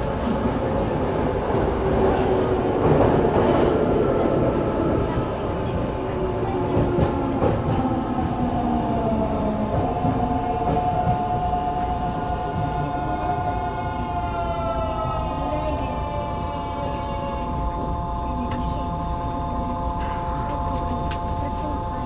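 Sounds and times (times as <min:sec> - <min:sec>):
subway motor whine: 0:00.0 - 0:22.0
wheels rumbling on rail: 0:00.0 - 0:22.0.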